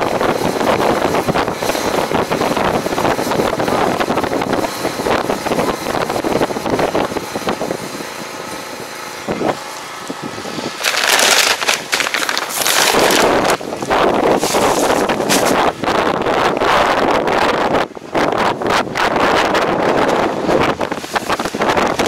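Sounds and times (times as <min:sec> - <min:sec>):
tractor engine running: 0:00.0 - 0:22.0
wind buffeting microphone: 0:00.0 - 0:22.0.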